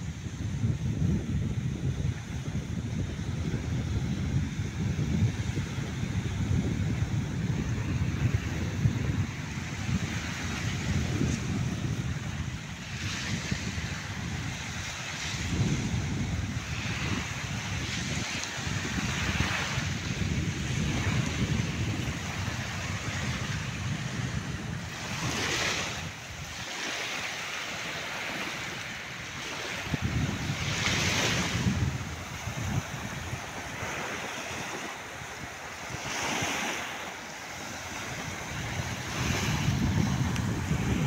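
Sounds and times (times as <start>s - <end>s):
waves washing on sandy shore: 0.0s - 41.0s
wind rumbling on microphone: 0.0s - 41.0s.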